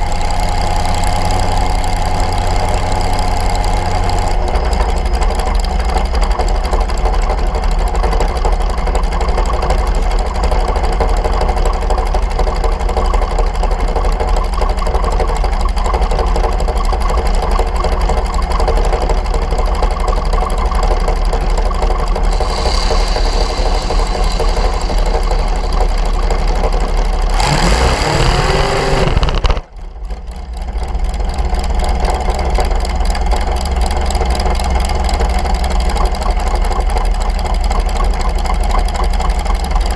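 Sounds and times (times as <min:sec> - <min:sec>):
dragster engine rumbling: 0:00.0 - 0:39.9.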